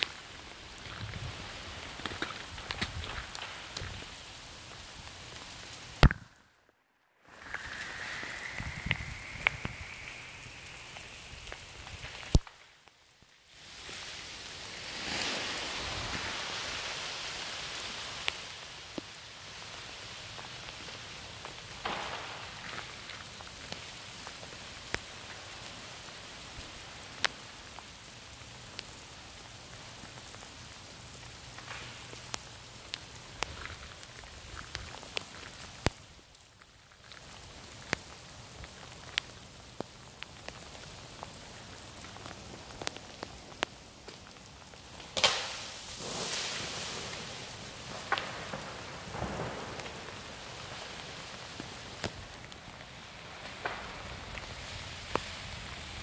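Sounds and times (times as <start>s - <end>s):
freezing rain on icy trees: 0.0s - 56.0s.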